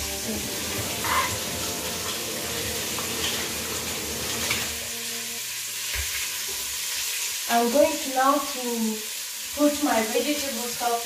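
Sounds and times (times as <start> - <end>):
meat frying in oil: 0.0 - 11.0.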